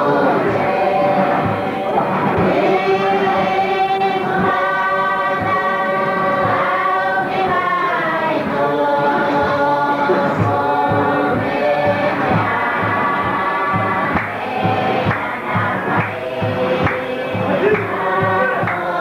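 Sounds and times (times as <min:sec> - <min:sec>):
voices singing in harmony: 0:00.0 - 0:19.0.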